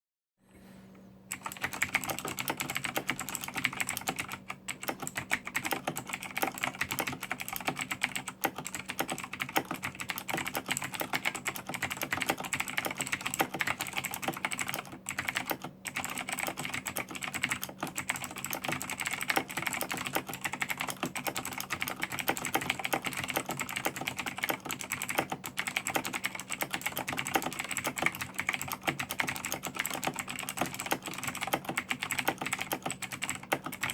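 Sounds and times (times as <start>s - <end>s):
clicky keyboard typing: 1.3s - 33.9s.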